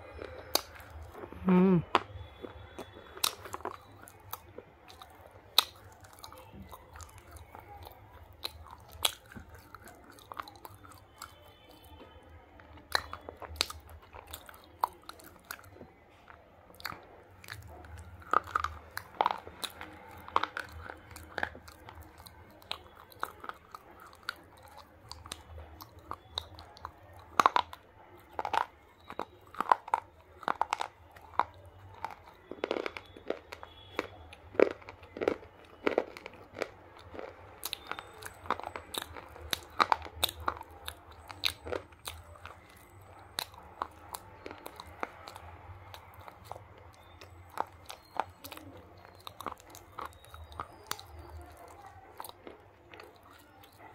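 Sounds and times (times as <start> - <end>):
slate pencils crunching and chewing: 0.0 - 53.9.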